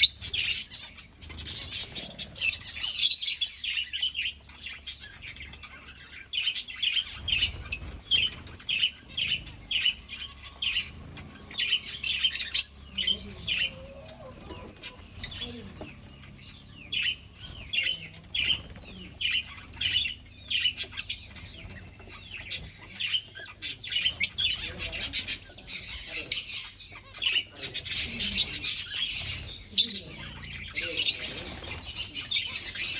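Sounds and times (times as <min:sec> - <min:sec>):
finches chirping: 0:00.0 - 0:32.9.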